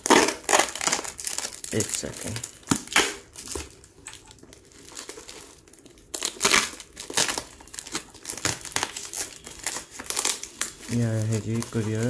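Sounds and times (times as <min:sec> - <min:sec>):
packing tape ripping and crinkling: 0:00.0 - 0:12.0.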